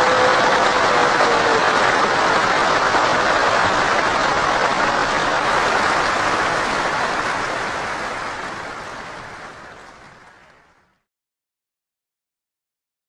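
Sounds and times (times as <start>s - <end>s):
crowd applauding: 0.0s - 10.5s.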